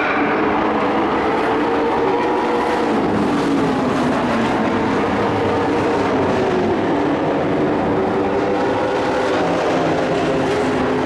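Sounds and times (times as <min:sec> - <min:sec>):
race truck engines droning: 0:00.0 - 0:11.0.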